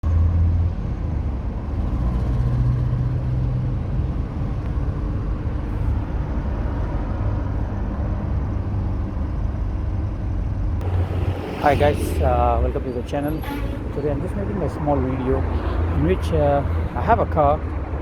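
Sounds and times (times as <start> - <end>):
rushing background noise: 0.1 - 18.0
car engine running: 0.9 - 18.0.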